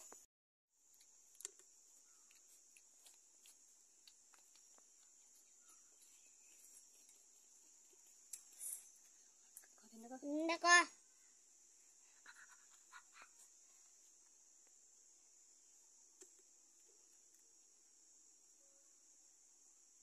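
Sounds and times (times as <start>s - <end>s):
faint high-pitched hiss: 0.0s - 20.0s.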